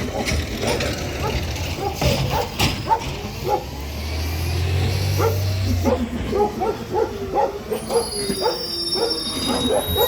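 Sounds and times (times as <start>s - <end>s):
dogs barking: 0.0s - 3.9s, 5.0s - 10.0s.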